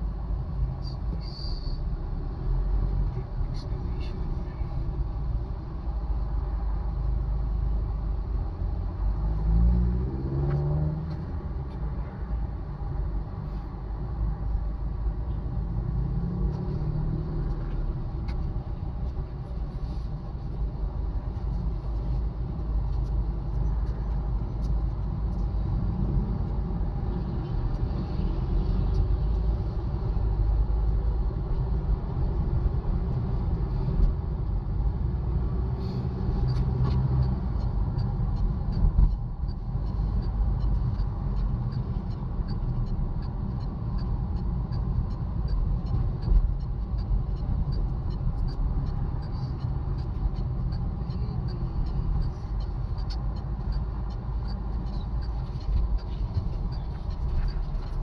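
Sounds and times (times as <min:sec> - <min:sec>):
heavy road traffic rumble: 0:00.0 - 0:58.0.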